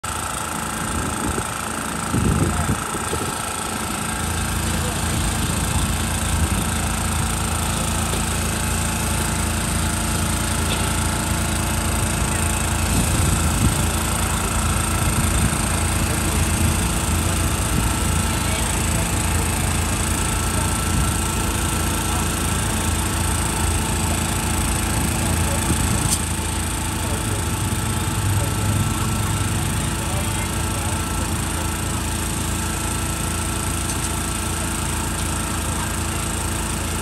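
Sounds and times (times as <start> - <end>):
low motor drone: 0.0 - 37.0
faint voices: 1.5 - 37.0.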